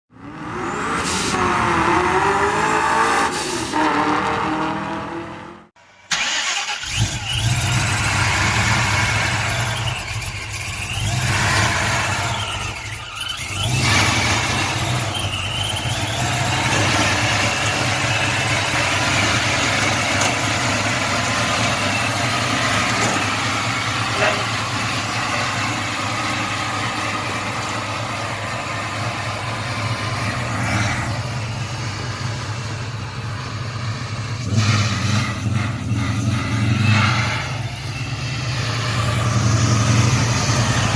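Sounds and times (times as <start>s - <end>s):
car engine running: 6.2s - 40.9s.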